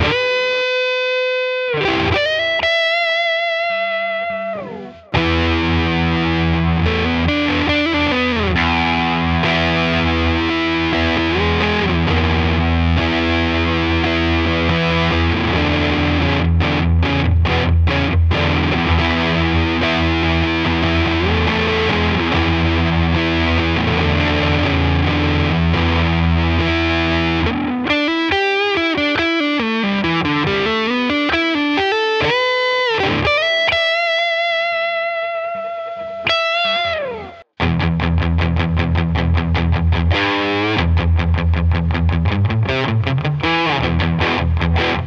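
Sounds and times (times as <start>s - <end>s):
distorted electric guitar chords: 0.0s - 45.0s
electric guitar lead line: 0.0s - 45.0s.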